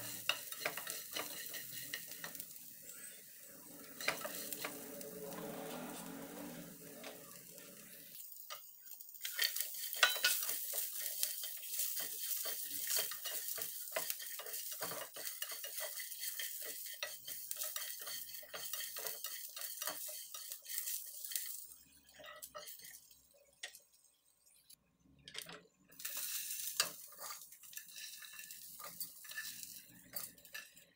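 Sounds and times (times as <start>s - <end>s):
spatula scraping a pan: 0.0s - 23.2s, 26.0s - 30.9s
spices sizzling in oil: 0.0s - 24.8s, 25.9s - 30.9s.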